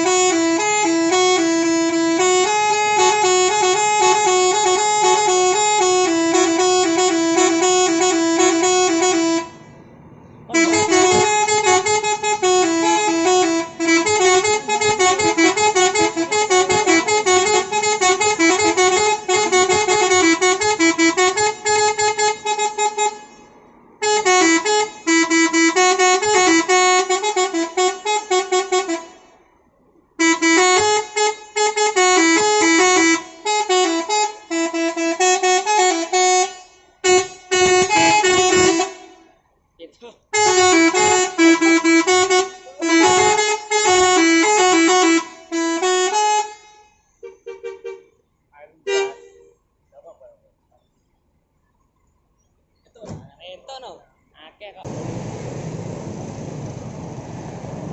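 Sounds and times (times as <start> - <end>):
bus air horn playing melody: 0.0 - 9.8, 10.5 - 39.4, 40.2 - 48.2, 48.8 - 49.6.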